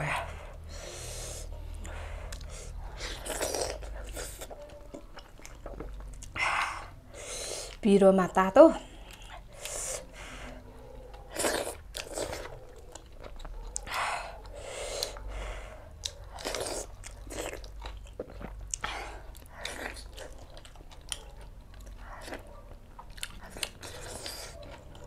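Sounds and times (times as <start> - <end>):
person chewing and crunching food: 0.0 - 7.8, 8.8 - 25.0.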